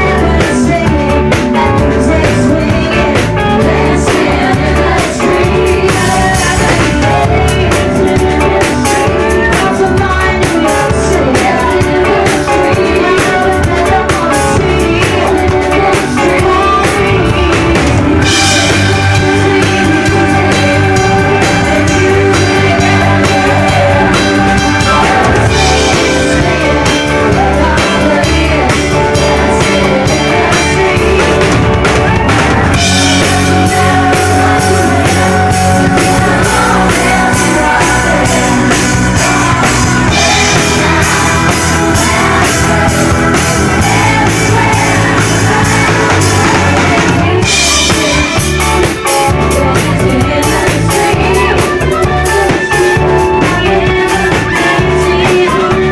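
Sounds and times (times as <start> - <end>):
live rock-pop band playing: 0.0 - 55.9
women singing into microphones: 0.0 - 55.9.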